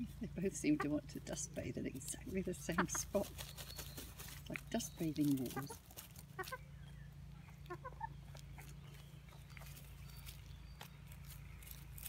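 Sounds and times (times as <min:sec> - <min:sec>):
hens clucking softly: 0:00.0 - 0:06.6, 0:07.2 - 0:10.9
scratching and rustling in dirt: 0:00.0 - 0:12.0.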